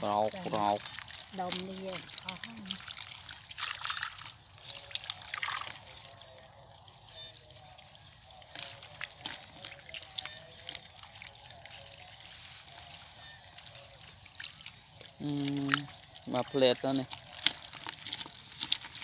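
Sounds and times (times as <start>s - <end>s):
small water splashes: 0.0s - 19.0s
trickling water: 0.0s - 19.0s
wet mud squelches: 0.0s - 19.0s.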